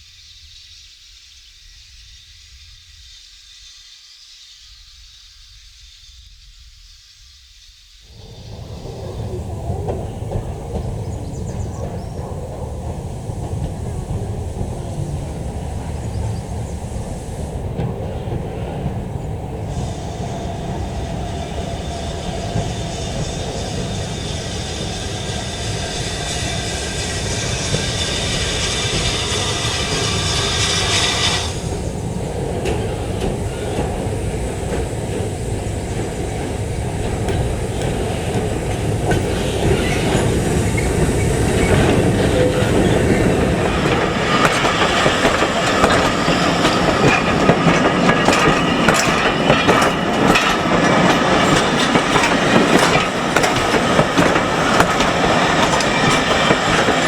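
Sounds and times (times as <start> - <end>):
high wheel squeal: 8.1 - 57.0
train wheels clattering: 8.2 - 57.0.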